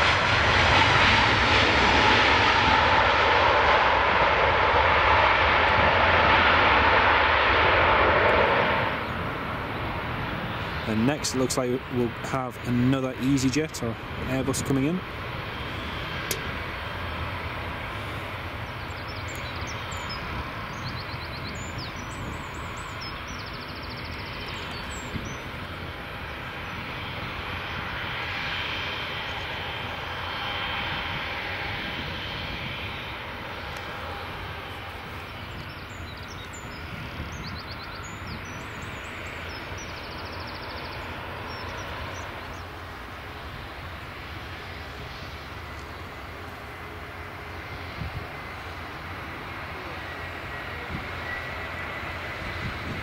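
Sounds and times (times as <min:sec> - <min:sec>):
jet airliner engines roaring: 0:00.0 - 0:53.0.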